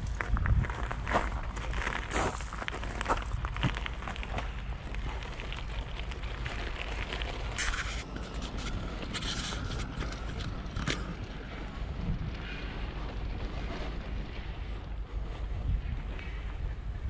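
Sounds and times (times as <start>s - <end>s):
bike clicks and rattles: 0.0s - 17.0s
wind rumble on microphone: 0.0s - 17.0s.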